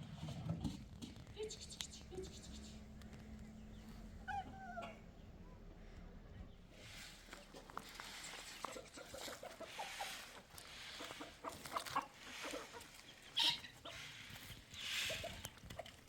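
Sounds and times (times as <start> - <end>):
chickens clucking: 1.4 - 16.0.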